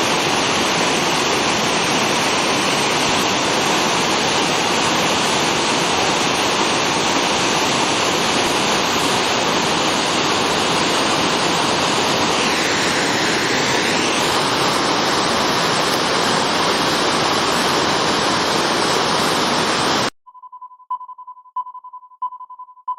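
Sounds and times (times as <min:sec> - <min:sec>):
waterfall pouring: 0:00.0 - 0:20.1.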